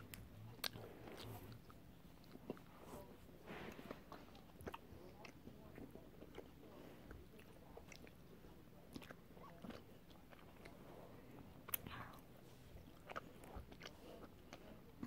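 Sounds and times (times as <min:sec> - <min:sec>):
chewing candy: 0:00.0 - 0:02.8, 0:03.7 - 0:15.0.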